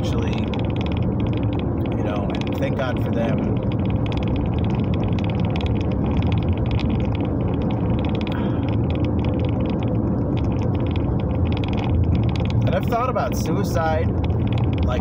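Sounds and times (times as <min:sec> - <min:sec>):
fast even ticking: 0:00.0 - 0:15.0
vehicle running rumble: 0:00.0 - 0:15.0.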